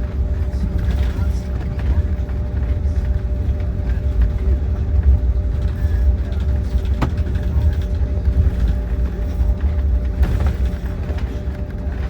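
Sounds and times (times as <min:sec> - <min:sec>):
jet engines heard from cabin: 0:00.0 - 0:12.0.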